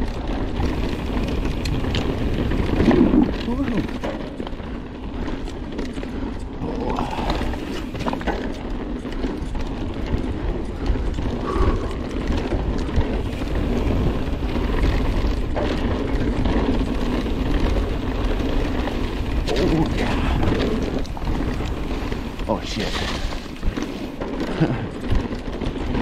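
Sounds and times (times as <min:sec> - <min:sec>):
bike knocks and rattles: 0:00.0 - 0:06.4, 0:07.0 - 0:26.0
tyre and wind rumble: 0:00.0 - 0:26.0.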